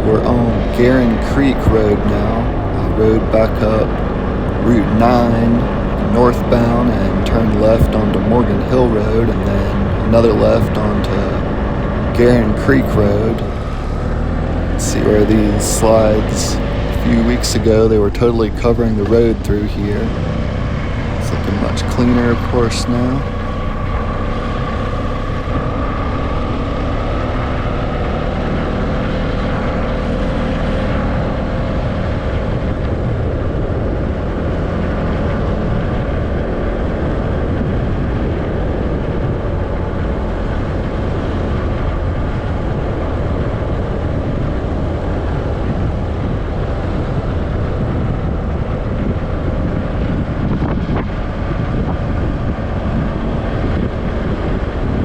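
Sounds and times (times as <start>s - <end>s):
vehicle engine and road rumble: 0.0s - 55.0s
wind on microphone: 0.0s - 55.0s.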